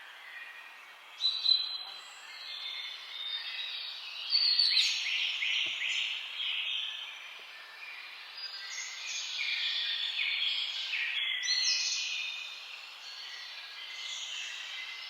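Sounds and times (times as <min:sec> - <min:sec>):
songbirds singing and chirping: 0:00.0 - 0:15.0.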